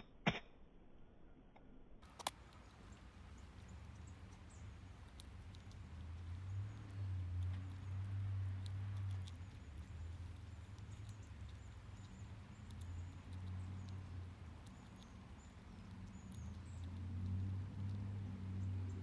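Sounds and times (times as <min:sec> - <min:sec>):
squirrel gnawing nut shell: 0:02.0 - 0:19.0
steady low hum: 0:02.2 - 0:19.0
bird chirps: 0:02.4 - 0:19.0.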